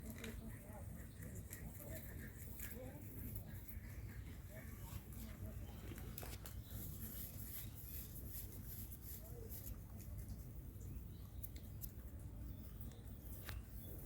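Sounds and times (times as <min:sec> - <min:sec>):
rabbits chewing grass: 0:00.0 - 0:14.0.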